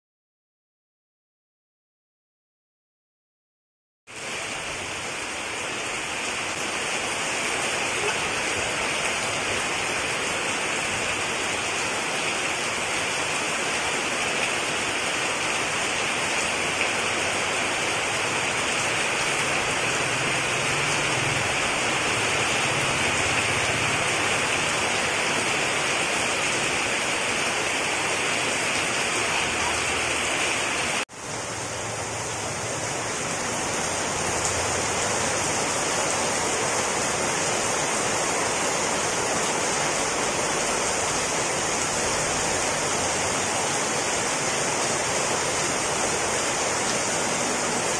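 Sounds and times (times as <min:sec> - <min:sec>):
torrential rain pouring: 0:04.1 - 0:47.9.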